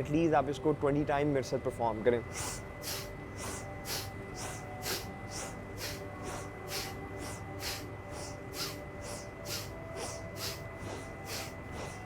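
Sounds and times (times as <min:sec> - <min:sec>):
rapid forceful nose breathing: 0:02.3 - 0:12.0.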